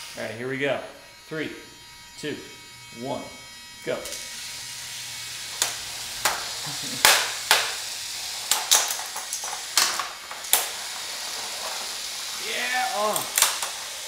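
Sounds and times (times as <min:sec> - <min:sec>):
small electric motors whirring: 0:00.0 - 0:14.0.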